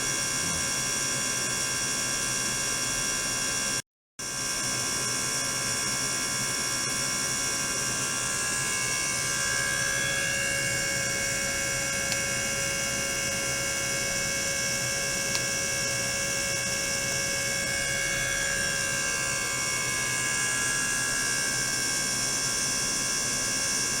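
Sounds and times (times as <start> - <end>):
pump whine: 0.0 - 24.0.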